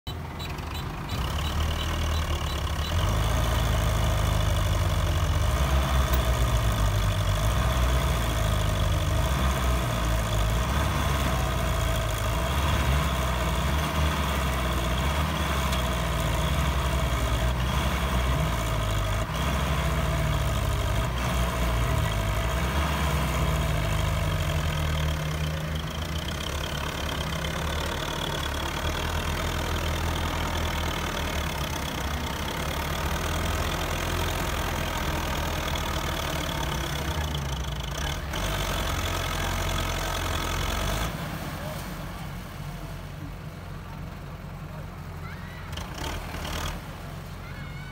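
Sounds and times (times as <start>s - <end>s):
combine harvester diesel running: 0.0s - 47.9s
tractor diesel engine under heavy load: 0.0s - 47.9s.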